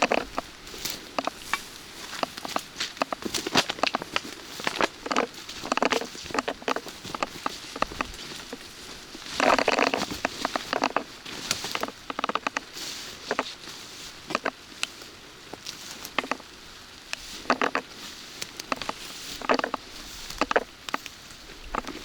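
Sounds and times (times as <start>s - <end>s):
footsteps in the rain: 0.0s - 22.0s
rustling crunch: 0.0s - 22.0s.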